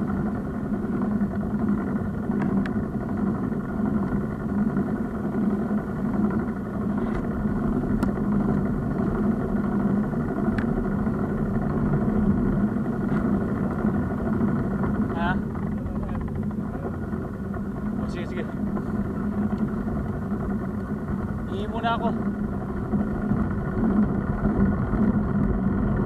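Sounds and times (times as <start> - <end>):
bicycle tyres on road: 0.0 - 26.0
wind on camera: 0.0 - 26.0.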